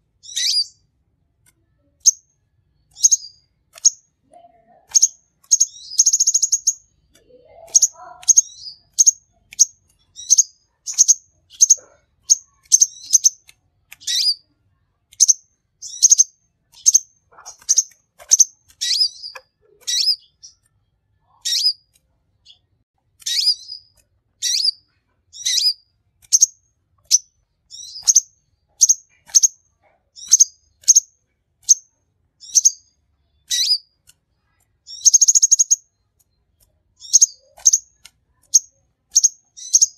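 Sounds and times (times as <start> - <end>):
bird twittering trill: 0.2 - 0.8, 2.0 - 14.5, 15.1 - 29.6, 30.2 - 34.0, 34.8 - 36.2, 37.0 - 39.9
sharp high bird chirps: 0.2 - 0.8, 1.9 - 4.1, 4.7 - 14.5, 15.1 - 22.6, 23.2 - 34.0, 34.8 - 36.4, 37.0 - 39.9.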